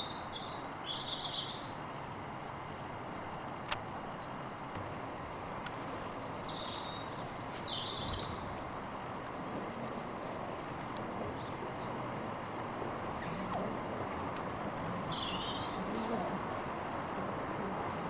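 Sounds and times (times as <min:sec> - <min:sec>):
birds chirping: 0:00.0 - 0:18.0
steady background hiss: 0:00.0 - 0:18.0.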